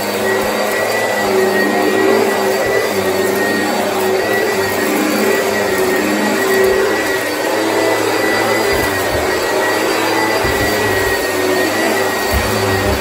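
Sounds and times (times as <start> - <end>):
vacuum cleaner whining: 0.0 - 13.0.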